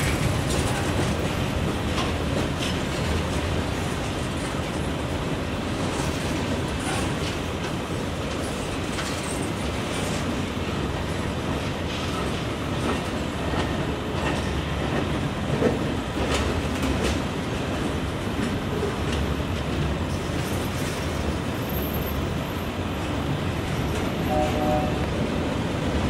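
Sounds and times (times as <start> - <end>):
steel wheels rumbling on rail: 0.0 - 26.0
wheels clacking over rail joints: 0.0 - 26.0.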